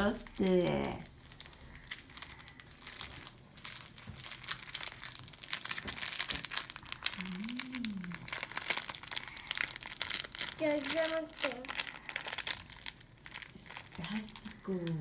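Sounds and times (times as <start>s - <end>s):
glitter packet crinkling: 0.0s - 15.0s.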